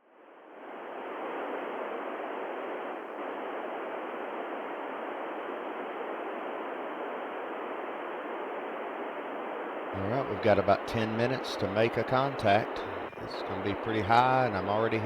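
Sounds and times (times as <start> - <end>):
radio static hiss: 0.1 - 15.0.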